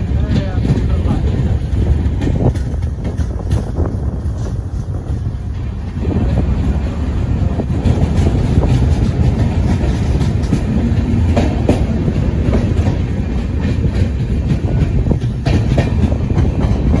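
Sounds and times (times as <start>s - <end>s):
train rumbling at speed: 0.0s - 17.0s
wheels clicking over rail joints: 0.0s - 17.0s.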